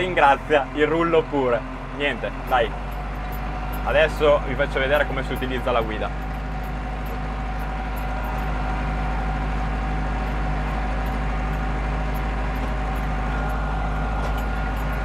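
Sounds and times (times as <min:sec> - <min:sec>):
tractor engine running under load: 0:00.0 - 0:15.0.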